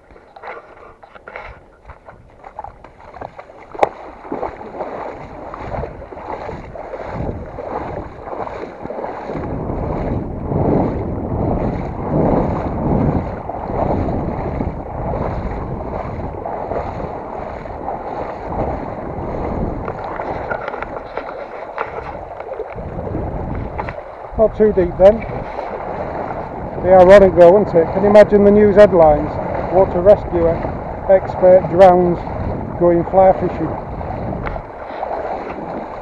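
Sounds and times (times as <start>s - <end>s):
wading through shallow water: 0.0s - 36.0s
wind on microphone: 0.0s - 36.0s.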